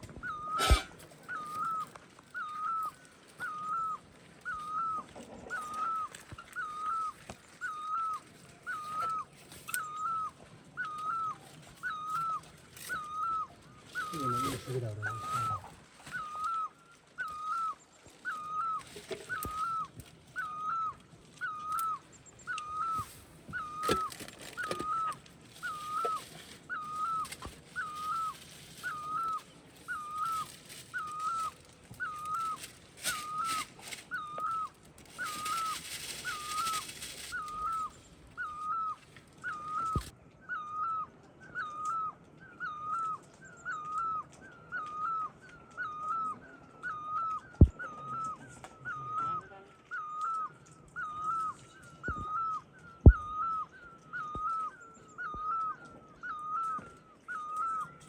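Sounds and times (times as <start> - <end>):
animal whining call: 0.2 - 58.0.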